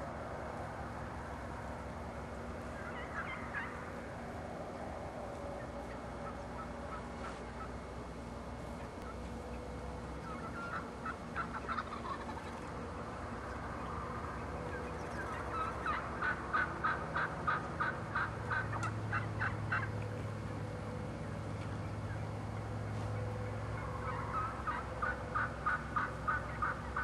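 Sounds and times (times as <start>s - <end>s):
wild turkeys calling: 1.0s - 27.0s.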